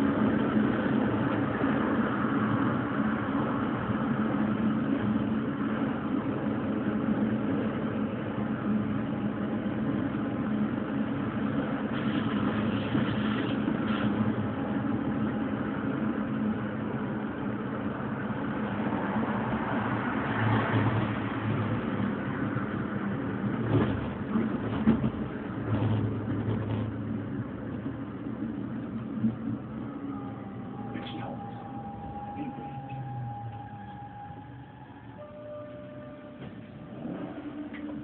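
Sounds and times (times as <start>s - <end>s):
electric railcar running on track: 0.0s - 38.0s.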